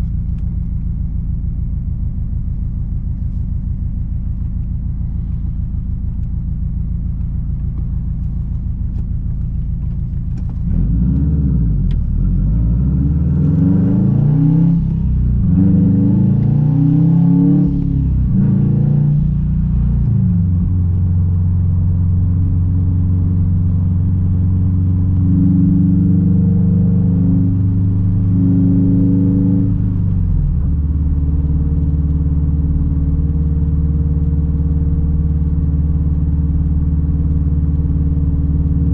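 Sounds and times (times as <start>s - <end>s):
car engine revving: 2.6s - 38.9s.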